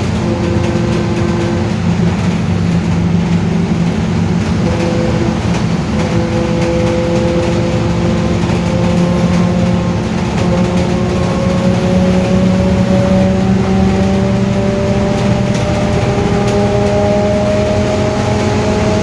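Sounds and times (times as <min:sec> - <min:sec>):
bus differential howling: 0:00.0 - 0:19.0
bus running noise: 0:00.0 - 0:19.0.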